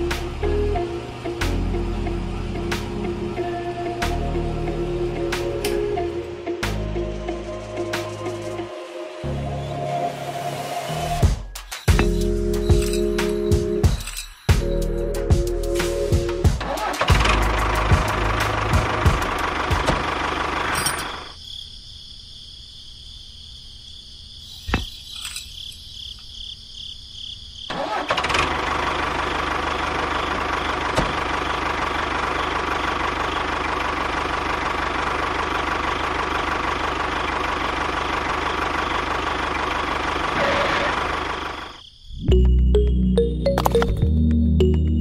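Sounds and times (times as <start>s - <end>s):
engine running: 0.0s - 11.3s, 11.9s - 21.3s, 27.7s - 45.0s.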